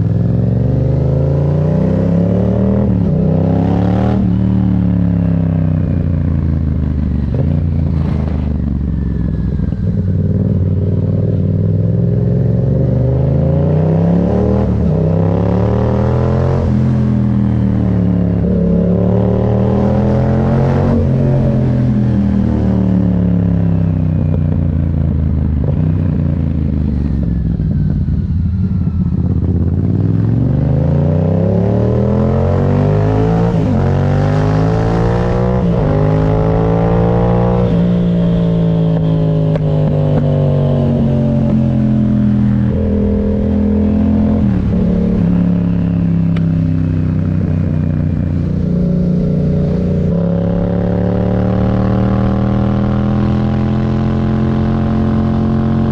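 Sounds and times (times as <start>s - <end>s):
motorcycle engine shifting gears: 0.0s - 55.9s.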